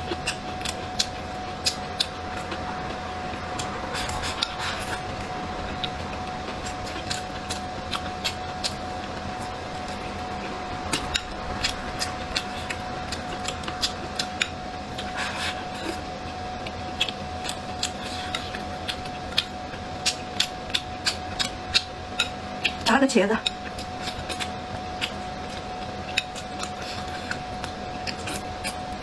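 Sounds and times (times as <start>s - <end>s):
chewing meat: 0.0s - 29.0s
steady background hum: 0.0s - 29.0s.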